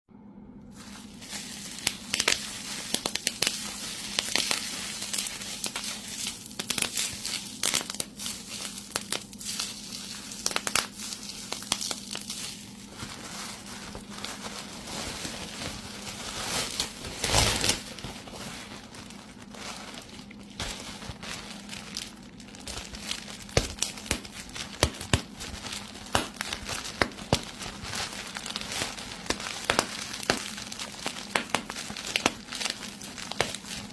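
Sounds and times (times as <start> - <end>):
plastic crinkling: 0.7 - 33.9
bubble wrap popping: 0.8 - 33.9.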